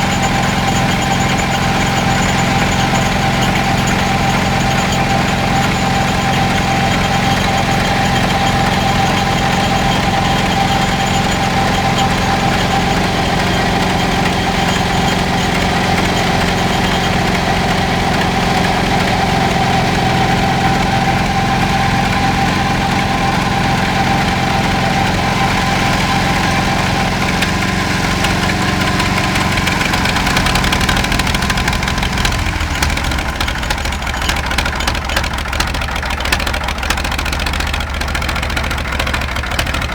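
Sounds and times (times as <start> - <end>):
crawler tractor engine idling: 0.0 - 39.9.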